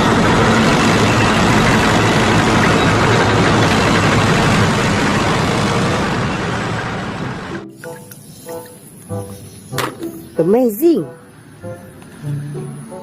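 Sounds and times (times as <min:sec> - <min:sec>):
tank engine idling: 0:00.0 - 0:10.6.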